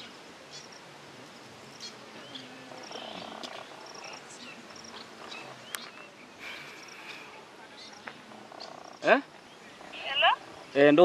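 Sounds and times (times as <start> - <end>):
insects hissing: 0.0 - 11.0.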